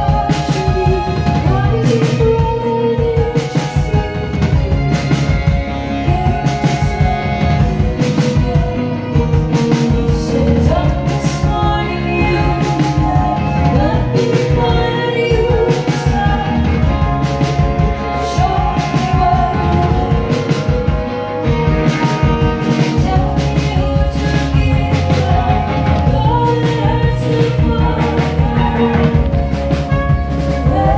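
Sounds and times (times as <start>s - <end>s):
drum kit beat: 0.0s - 30.9s
saxophone: 0.0s - 30.9s
trumpet: 0.0s - 30.9s
violin: 0.0s - 30.9s.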